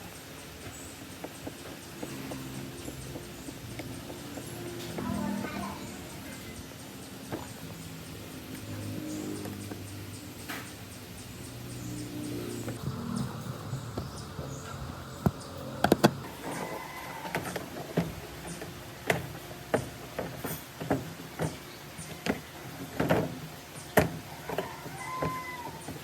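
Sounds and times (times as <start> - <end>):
sharp clicks and knocks: 0.0 - 26.0.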